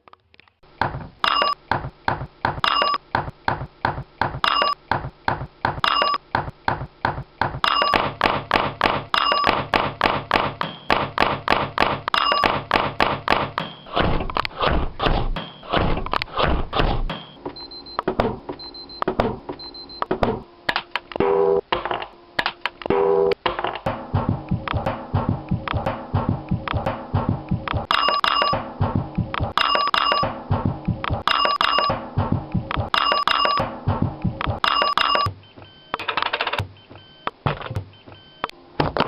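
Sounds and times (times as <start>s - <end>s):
rhythmic thuds and knocks: 0.7s - 21.0s, 23.4s - 39.0s.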